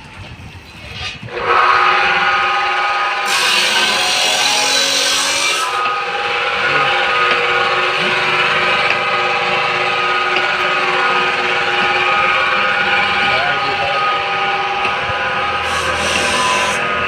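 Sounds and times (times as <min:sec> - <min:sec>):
power tool whining and rasping: 0:01.3 - 0:17.0.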